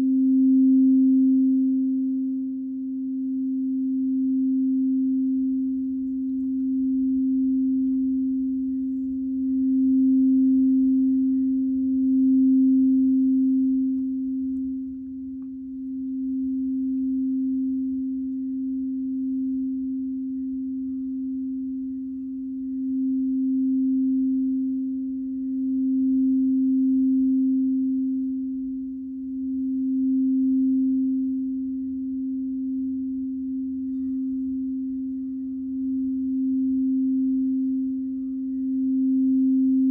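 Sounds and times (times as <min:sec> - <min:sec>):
crystal singing bowl ringing: 0:00.0 - 0:39.9.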